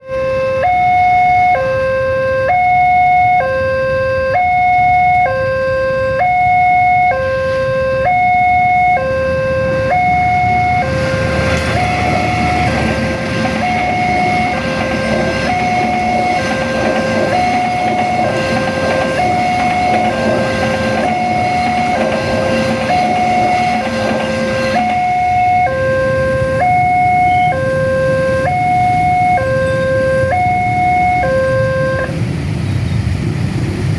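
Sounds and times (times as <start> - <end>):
level crossing two-tone alarm: 0.0 - 32.1
train rumbling: 2.4 - 33.9.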